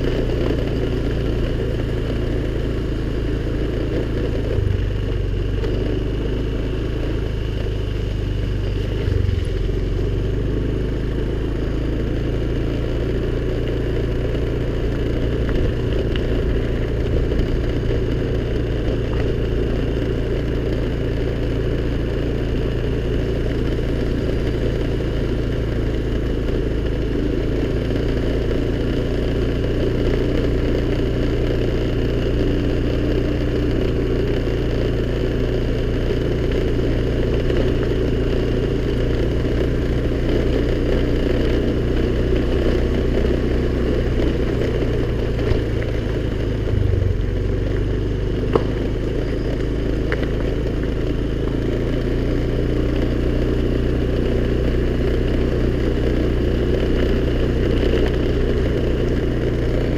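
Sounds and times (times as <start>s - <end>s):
scooter engine droning: 0.0s - 59.9s.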